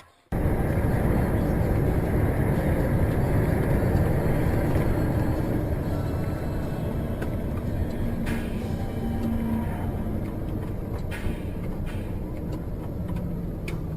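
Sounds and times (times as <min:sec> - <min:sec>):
car road and engine rumble: 0:00.3 - 0:13.9.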